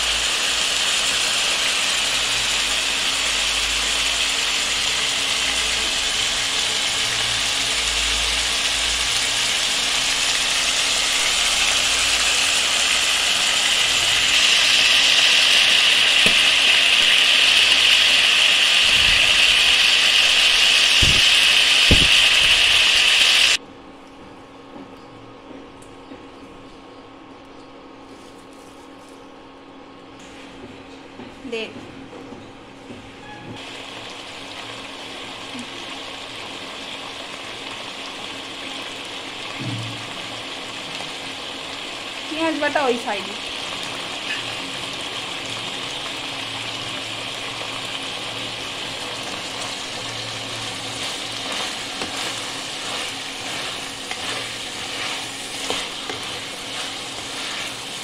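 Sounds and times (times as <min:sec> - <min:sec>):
chicken sizzling in hot oil: 0:00.0 - 0:23.6, 0:33.6 - 0:58.0.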